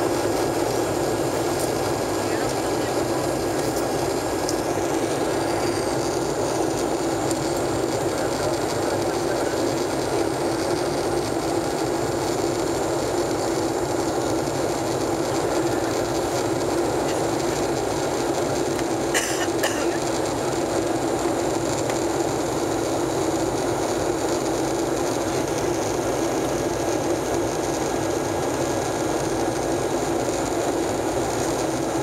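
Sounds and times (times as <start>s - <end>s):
jet engines droning: 0.0s - 32.0s.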